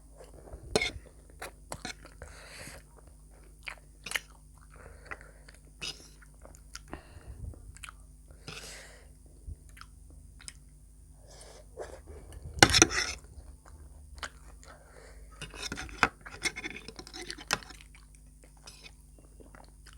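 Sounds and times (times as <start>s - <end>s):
person chewing food: 0.2s - 8.7s, 9.3s - 19.9s.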